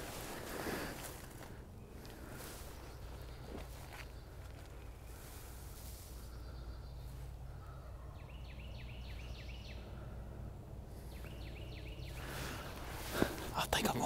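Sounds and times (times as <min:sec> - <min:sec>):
songbird singing: 0:00.0 - 0:14.0
steady low hum: 0:00.0 - 0:14.0.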